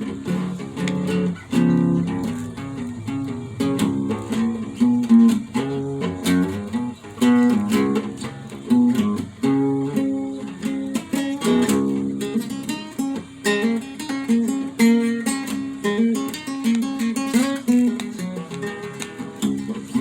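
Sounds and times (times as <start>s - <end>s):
solo guitar: 0.0s - 20.0s.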